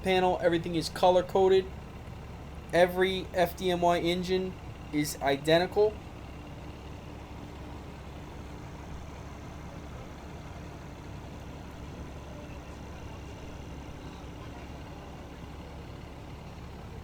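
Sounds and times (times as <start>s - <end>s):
fire engine diesel idling: 0.0s - 17.0s.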